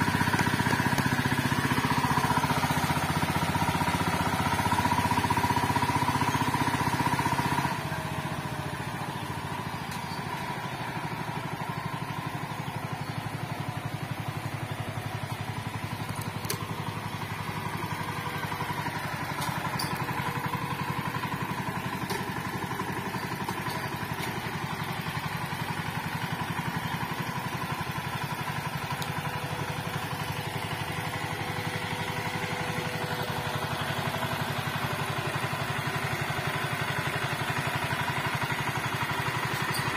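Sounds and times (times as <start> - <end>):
rotary tiller churning soil: 0.0 - 11.2, 12.6 - 39.9
tiller engine running under load: 0.0 - 39.9.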